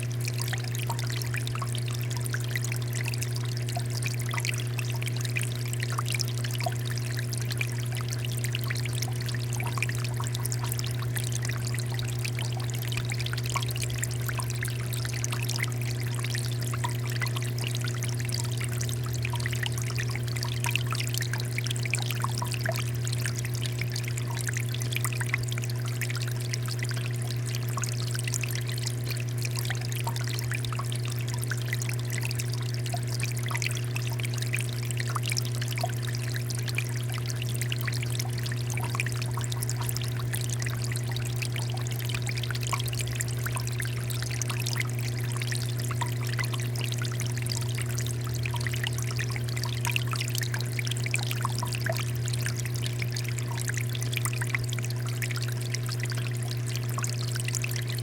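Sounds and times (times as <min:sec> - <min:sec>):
constant low hum: 0:00.0 - 0:58.0.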